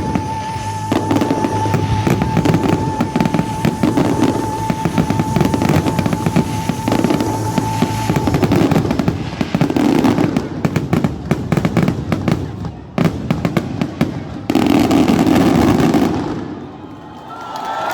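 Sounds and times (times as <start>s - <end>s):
fireworks bangs and crackles: 0.0s - 17.1s
continuous fireworks roar: 0.0s - 17.3s.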